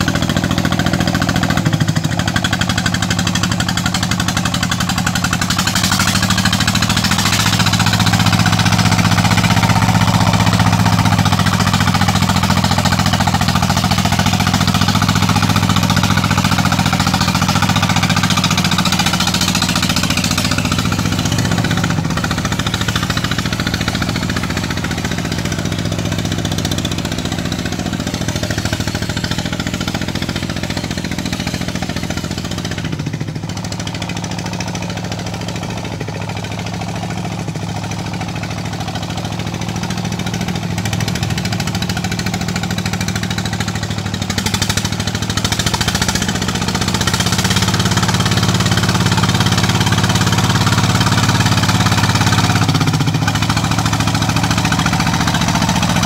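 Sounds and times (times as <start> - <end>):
walking tractor diesel engine: 0.0 - 56.0.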